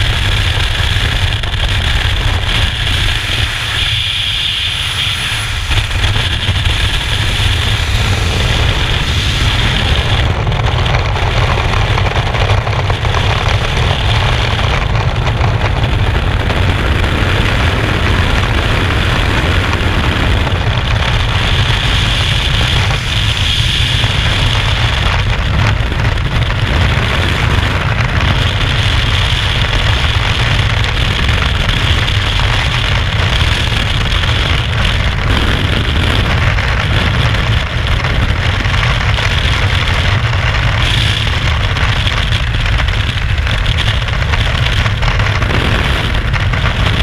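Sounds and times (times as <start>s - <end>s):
freefall wind buffeting microphone: 0.0s - 47.0s.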